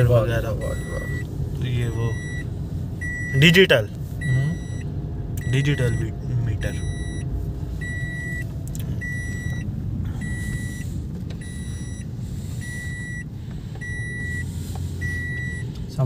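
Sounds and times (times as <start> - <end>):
car warning beeper: 0.0 - 16.0
low rumble of car driving: 0.0 - 16.0.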